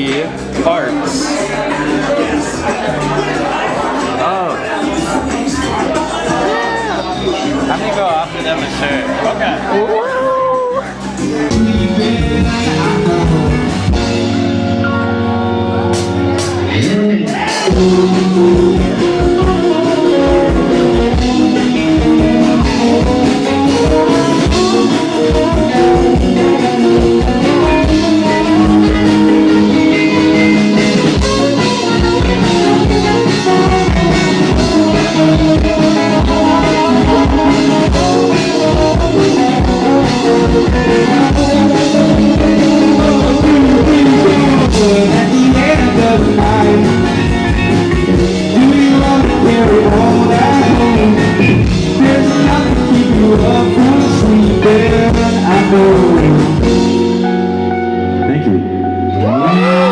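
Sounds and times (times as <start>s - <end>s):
drum kit beat: 0.0s - 58.1s
electric guitar: 0.0s - 59.9s.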